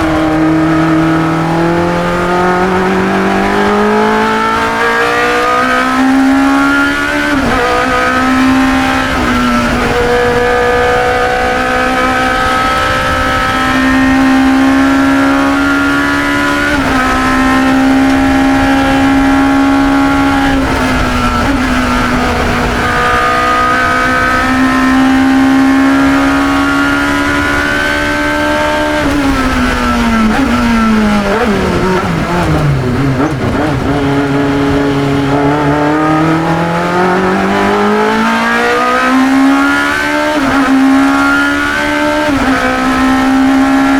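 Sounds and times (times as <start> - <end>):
racing car engine at high revs: 0.0 - 43.9.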